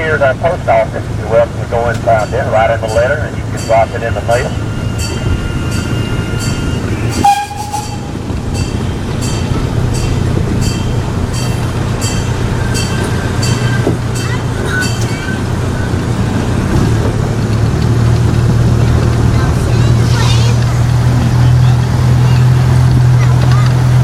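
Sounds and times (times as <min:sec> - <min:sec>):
train engine drone: 0:00.0 - 0:24.0
wheels clicking on rail joints: 0:01.1 - 0:24.0.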